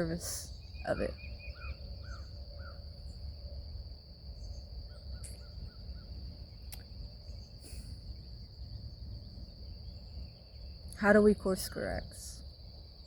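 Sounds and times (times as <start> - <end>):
small bird chirps: 0.0 - 3.3, 4.3 - 12.2
insects droning: 0.0 - 13.0.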